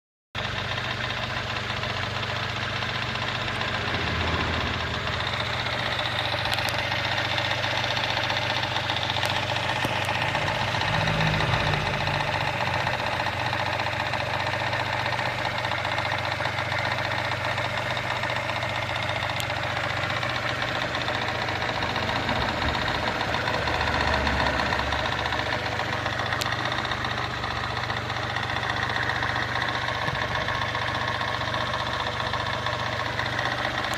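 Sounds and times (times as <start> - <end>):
car engine idling: 0.4 - 33.9
slapping noise from engine: 0.6 - 33.9.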